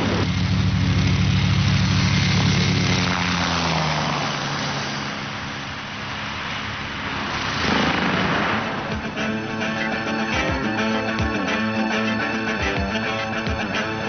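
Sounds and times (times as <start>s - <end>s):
helicopter rotor thudding: 0.0s - 11.9s
rush of noise: 0.0s - 14.0s.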